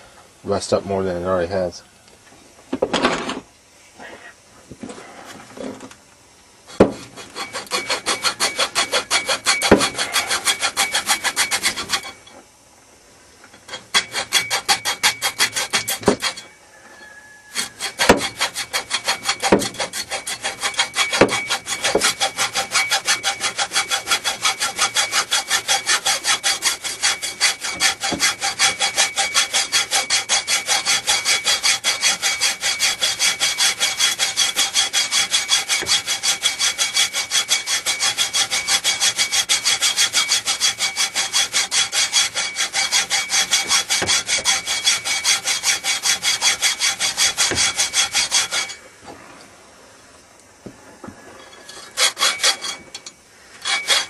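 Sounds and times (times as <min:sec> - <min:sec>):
hacksaw sawing metal: 0:06.7 - 0:12.4, 0:13.6 - 0:48.8, 0:51.4 - 0:54.0.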